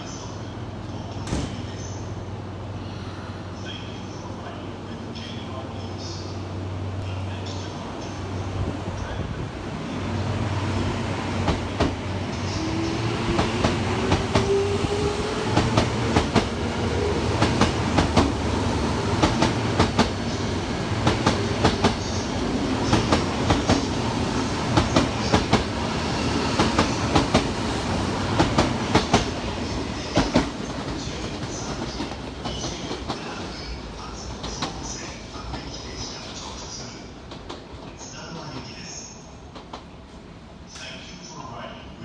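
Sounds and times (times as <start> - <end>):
train rumble: 0.0 - 42.0.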